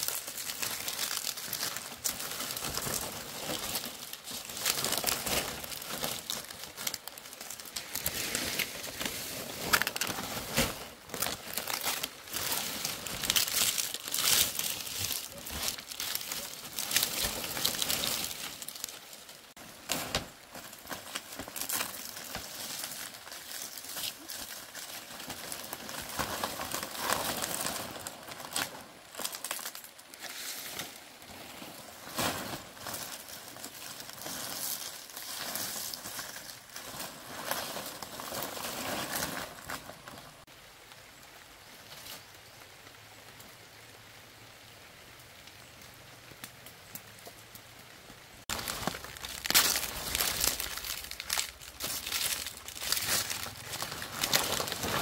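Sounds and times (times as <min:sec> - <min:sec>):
palm leaves rustling and crackling: 0:00.0 - 0:55.0.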